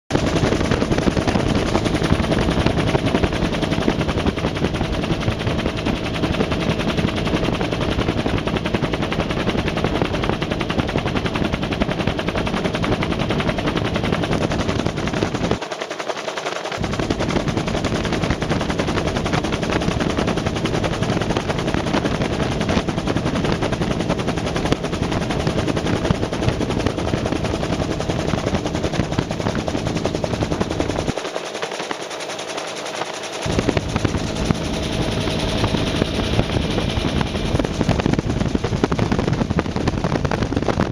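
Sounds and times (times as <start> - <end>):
helicopter rotor chop: 0.1 - 40.9.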